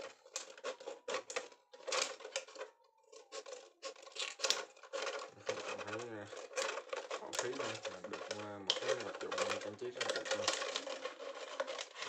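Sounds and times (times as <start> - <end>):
plastic crackling: 0.0 - 12.0.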